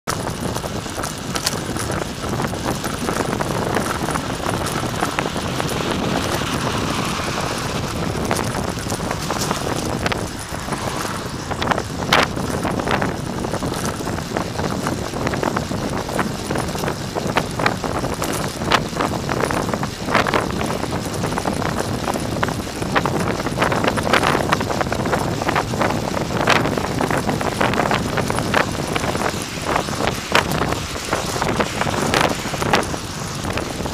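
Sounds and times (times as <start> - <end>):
wind rushing over microphone: 0.0 - 33.9
car road noise: 0.1 - 33.9
sharp knocks and rattles: 0.1 - 33.9.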